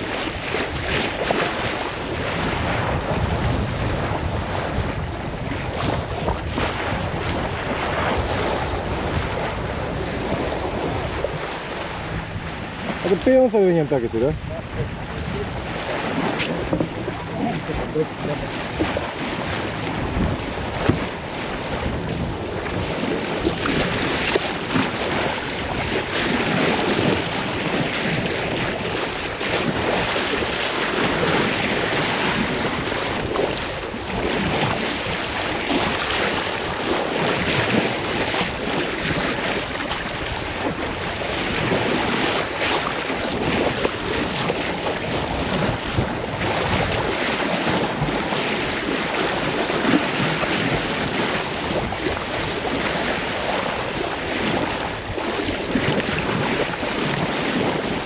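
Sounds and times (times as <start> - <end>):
water rushing along hull: 0.0 - 58.0
waves: 0.0 - 58.0
wind buffeting microphone: 0.0 - 58.0.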